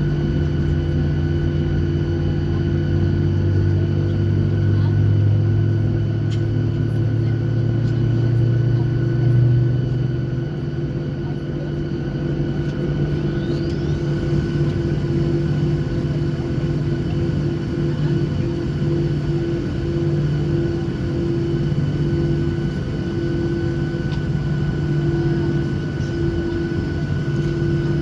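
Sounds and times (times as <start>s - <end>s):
airplane cabin engine hum: 0.0s - 28.0s.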